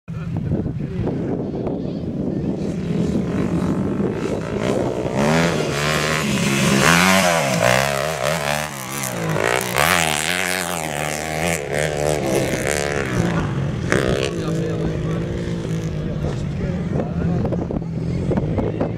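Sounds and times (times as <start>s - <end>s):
dirt bike engine revving: 2.5s - 18.9s.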